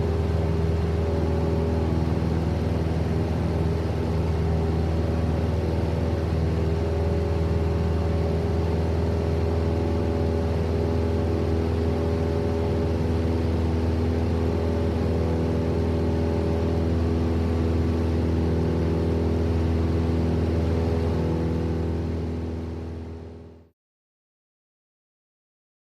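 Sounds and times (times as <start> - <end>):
propeller plane engine drone: 0.0 - 23.7.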